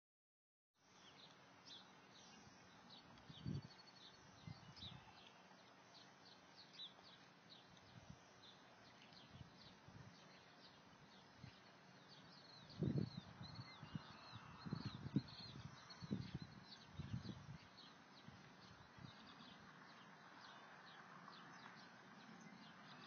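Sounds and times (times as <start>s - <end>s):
songbirds chirping: 0.8s - 23.0s.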